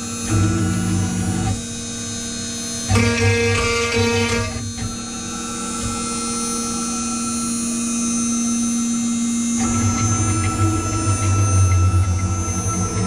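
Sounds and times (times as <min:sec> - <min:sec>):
cnc router motor whine: 0:00.0 - 0:13.0.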